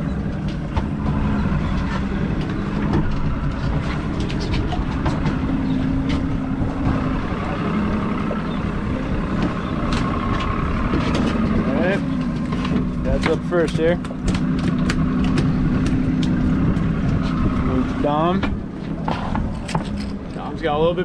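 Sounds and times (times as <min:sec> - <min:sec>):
outboard motor idling: 0:00.0 - 0:21.0.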